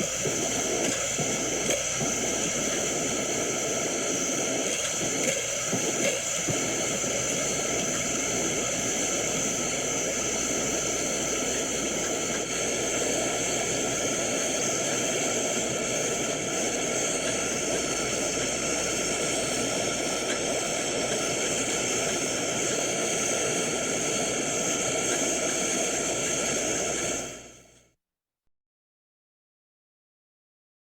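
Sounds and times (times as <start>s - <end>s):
gas burner hissing: 0.0s - 27.7s.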